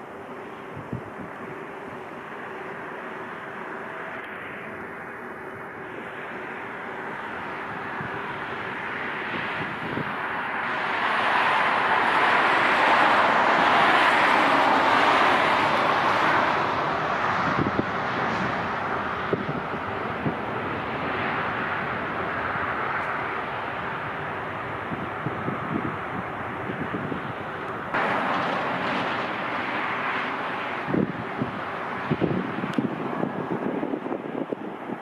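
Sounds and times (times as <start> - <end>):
jet airliner passing: 0.0 - 35.0.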